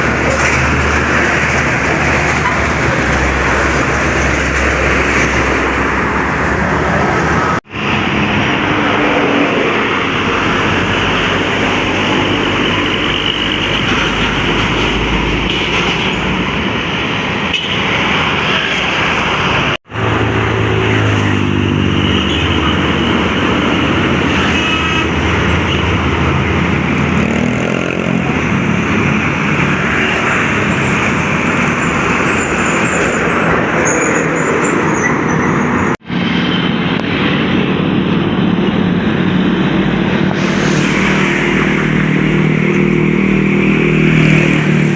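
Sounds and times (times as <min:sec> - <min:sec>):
trucks passing close by: 0:00.0 - 0:44.9
tyre and road noise: 0:00.0 - 0:44.9.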